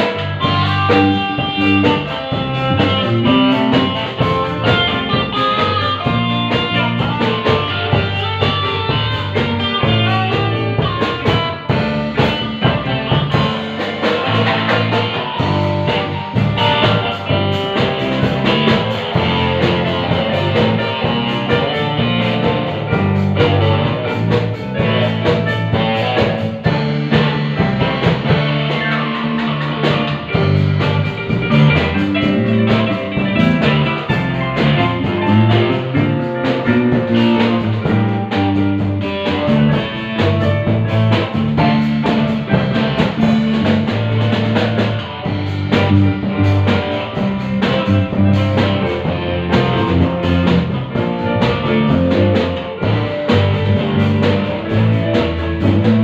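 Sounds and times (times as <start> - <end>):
bass line: 0.0 - 56.0
drum kit: 0.0 - 56.0
electric guitar playing: 0.0 - 56.0.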